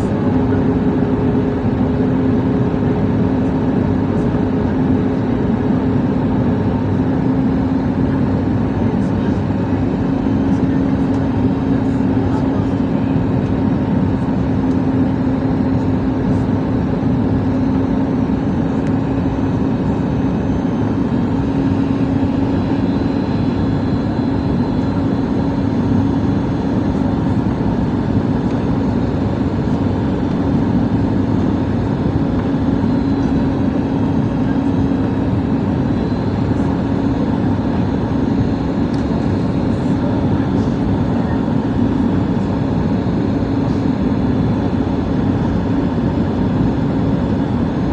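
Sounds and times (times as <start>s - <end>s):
airliner engine and airflow noise: 0.0s - 47.9s.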